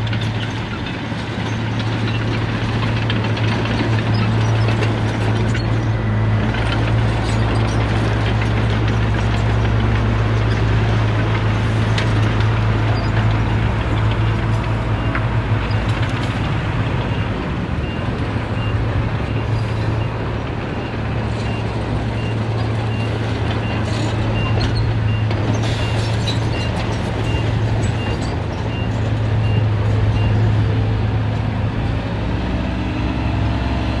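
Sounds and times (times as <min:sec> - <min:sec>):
heavy diesel engine humming: 0:00.0 - 0:34.0.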